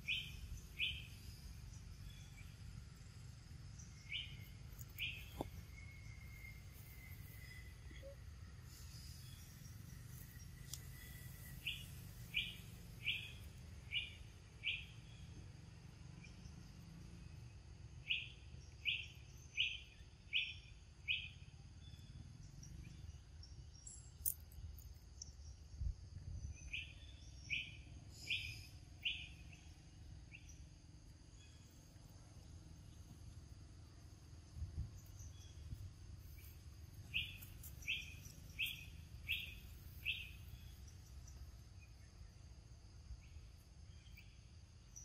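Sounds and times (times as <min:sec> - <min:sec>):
faint high insect hum: 0:00.0 - 0:45.0.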